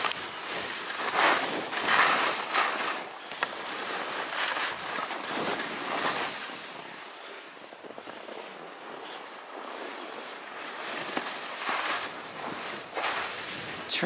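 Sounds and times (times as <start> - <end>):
skis scraping and hissing on snow: 0.0 - 14.0.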